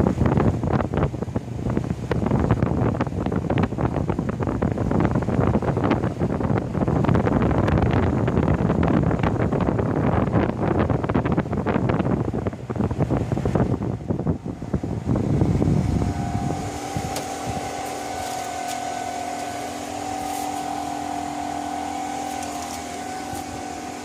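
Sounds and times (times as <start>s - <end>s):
heat pump fan and compressor hum: 0.0s - 24.0s
wind buffeting microphone: 0.0s - 24.0s.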